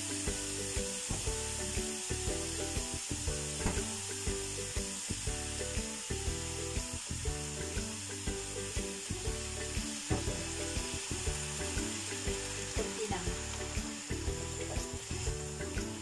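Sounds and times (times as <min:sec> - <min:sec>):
background music: 0:00.0 - 0:16.0
food sizzling in a wok: 0:00.0 - 0:16.0
broth being poured: 0:00.1 - 0:16.0.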